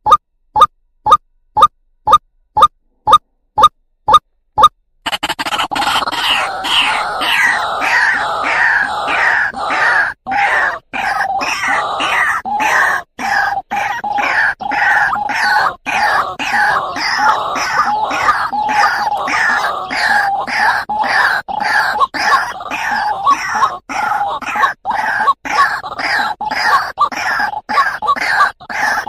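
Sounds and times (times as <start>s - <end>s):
waterhen calling: 5.1s - 29.0s.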